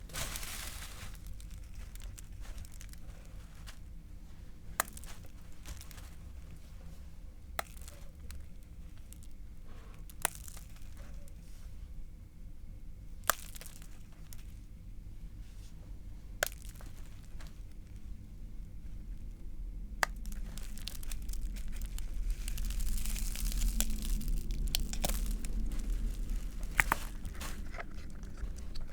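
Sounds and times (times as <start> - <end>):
crinkling: 0.0 - 11.9, 13.1 - 28.9
faint rustling of toy: 0.0 - 11.9, 13.2 - 19.4, 20.0 - 28.9.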